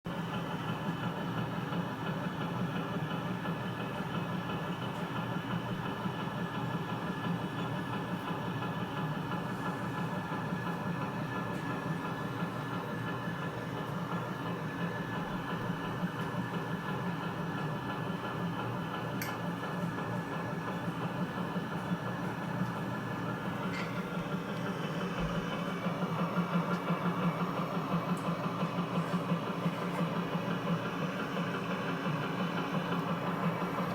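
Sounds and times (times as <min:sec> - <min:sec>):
washing machine rumbling: 0:00.1 - 0:33.9.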